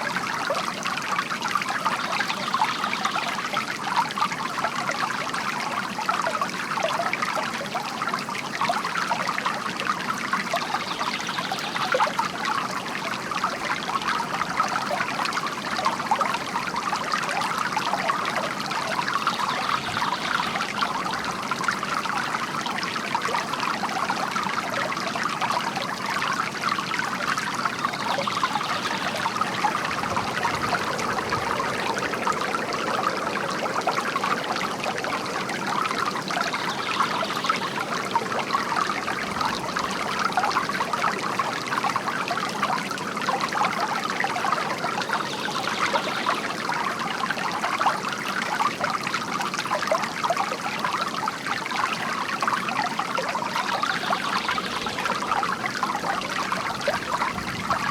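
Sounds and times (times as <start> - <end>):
fountain water trickling and splashing: 0.0 - 57.9.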